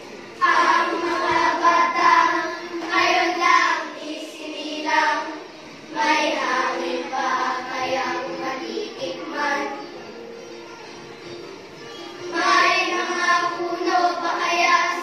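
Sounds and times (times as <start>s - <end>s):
backing music: 0.0s - 15.0s
children singing: 0.0s - 15.0s.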